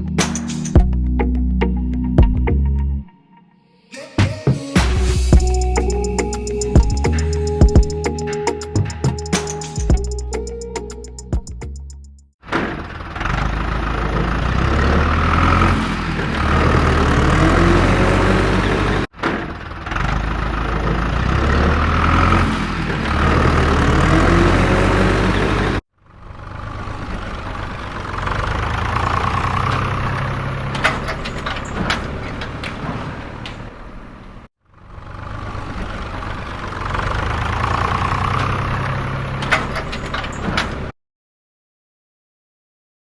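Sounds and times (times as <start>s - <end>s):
tractor engine rumbling: 4.8s - 40.9s.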